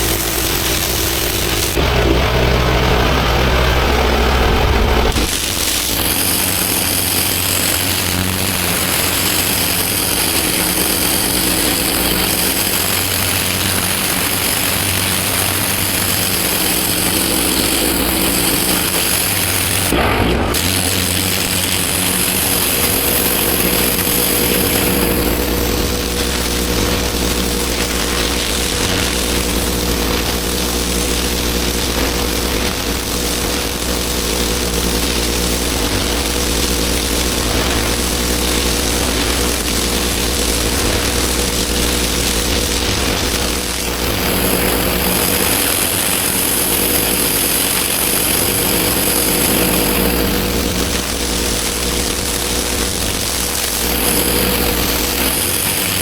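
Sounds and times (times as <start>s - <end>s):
pressure washer engine running: 0.0s - 56.0s
water jet hissing on paving: 0.0s - 56.0s.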